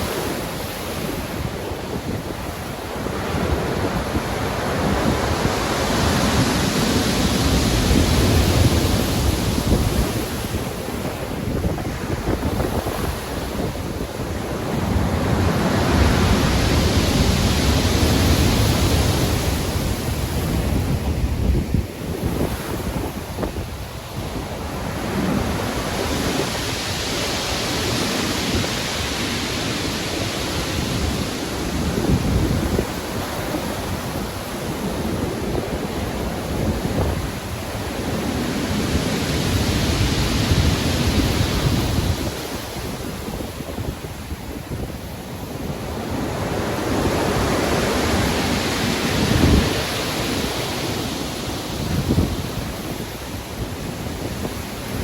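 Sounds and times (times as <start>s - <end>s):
low rumbling surf: 0.0s - 55.0s
waves breaking: 0.0s - 55.0s
wind: 0.0s - 55.0s.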